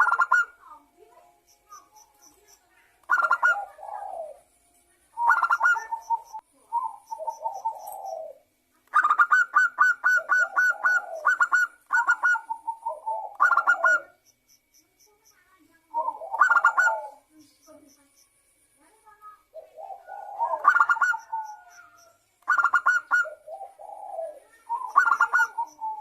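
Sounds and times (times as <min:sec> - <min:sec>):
dove cooing: 0:00.0 - 0:04.5, 0:05.2 - 0:14.2, 0:15.9 - 0:17.8, 0:19.5 - 0:26.0.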